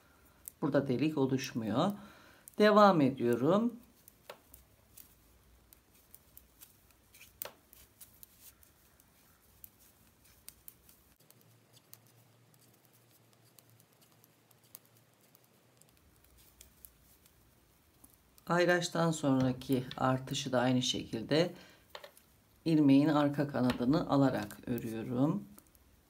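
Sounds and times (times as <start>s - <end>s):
knitting needles clicking: 0.3s - 0.7s, 1.4s - 21.2s, 21.8s - 22.7s, 23.3s - 26.0s.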